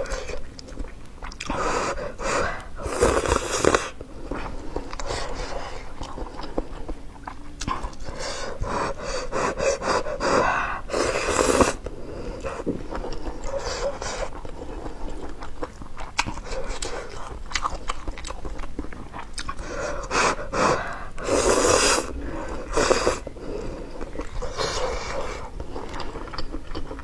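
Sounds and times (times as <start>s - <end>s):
chewing and mouth sounds: 0.0s - 9.0s, 11.1s - 27.0s
noodles slurping: 1.3s - 6.6s, 9.5s - 15.2s, 16.0s - 27.0s.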